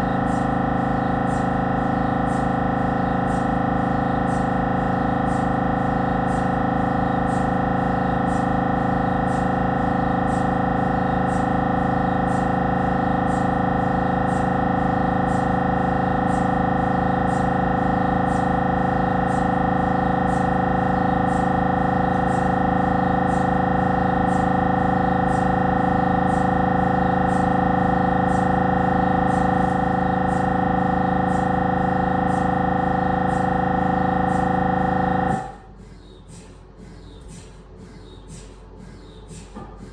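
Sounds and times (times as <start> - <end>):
scanner buzzing drone: 0.0 - 35.8.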